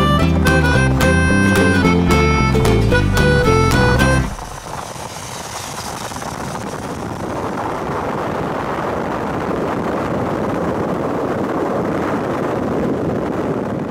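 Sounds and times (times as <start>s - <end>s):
road and engine noise: 0.0s - 13.7s
wind rush on microphone: 0.0s - 13.9s.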